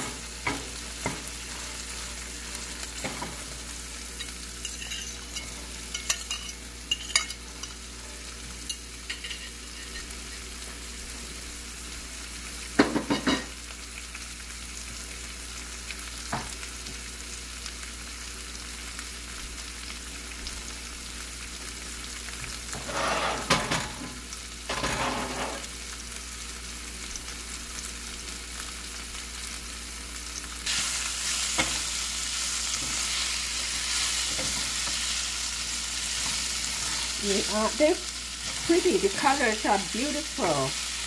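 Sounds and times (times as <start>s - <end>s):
vegetables sizzling in oil: 0.0s - 41.0s.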